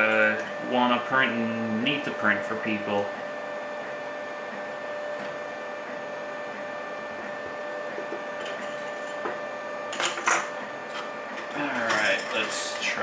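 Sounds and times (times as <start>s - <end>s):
printer motors and fan whirring: 0.0s - 13.0s.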